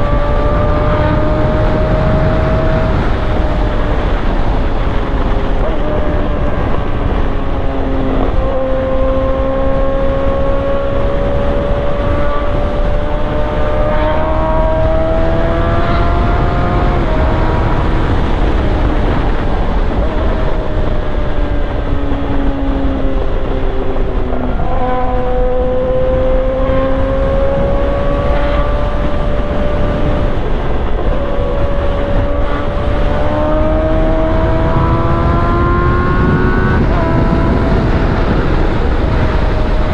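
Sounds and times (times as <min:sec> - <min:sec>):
low wind rumble: 0:00.0 - 0:39.9
motorcycle engine revving: 0:00.0 - 0:39.9.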